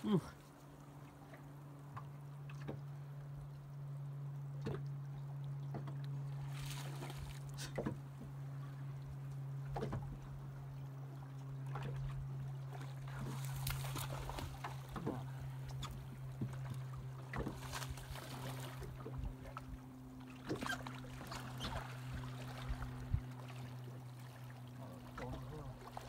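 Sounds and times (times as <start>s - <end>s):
boat engine humming: 0.0s - 26.0s
water splashing against hull: 0.0s - 26.0s.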